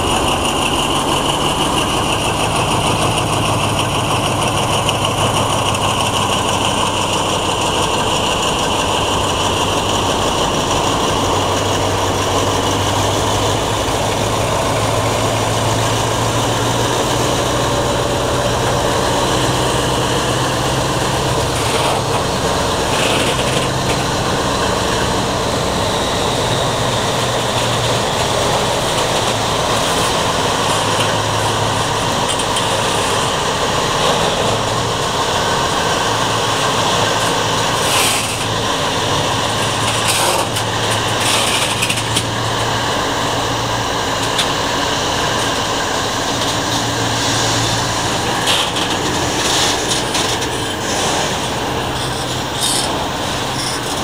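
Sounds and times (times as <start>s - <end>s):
diesel locomotive hum: 0.0s - 54.0s
train wheels on rails: 0.0s - 54.0s.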